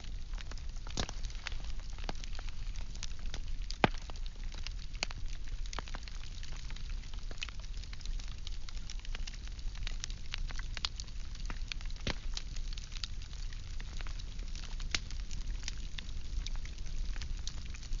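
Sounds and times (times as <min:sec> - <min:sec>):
logs crackling and popping: 0:00.0 - 0:18.0
low fire rumble: 0:00.0 - 0:18.0.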